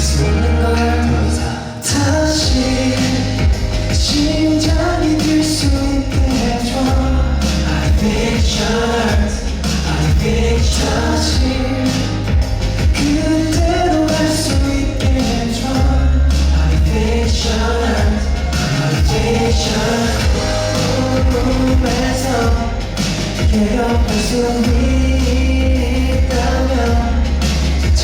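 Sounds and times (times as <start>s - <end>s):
heavy bass beat: 0.0s - 28.0s
pop song with singing: 0.0s - 28.0s.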